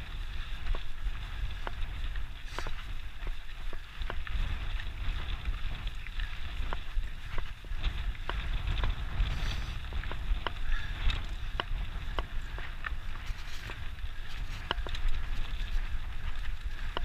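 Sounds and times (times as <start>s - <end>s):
bike ticks and rattles: 0.0s - 17.0s
wind rumble on microphone: 0.0s - 17.0s.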